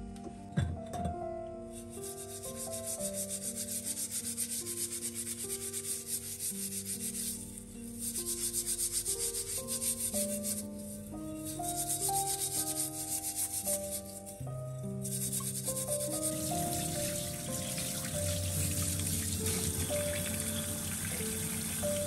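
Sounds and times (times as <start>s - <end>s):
steel wool scrubbing metal: 1.9s - 14.4s, 15.0s - 22.0s.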